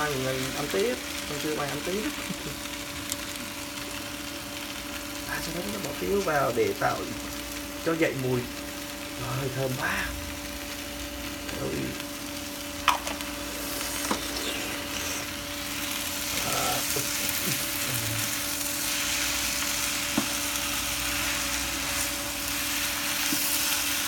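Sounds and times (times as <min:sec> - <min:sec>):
noodles sizzling in a frying pan: 0:00.0 - 0:24.0
steady low hum: 0:00.0 - 0:24.0.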